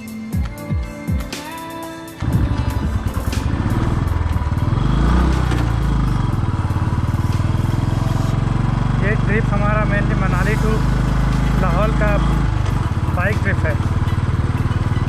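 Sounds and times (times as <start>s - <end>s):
motorcycle engine running: 2.2s - 15.0s.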